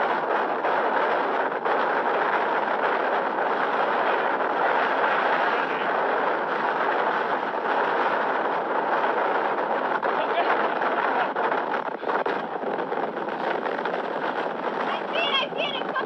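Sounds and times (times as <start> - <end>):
strong wind roaring: 0.0 - 16.0.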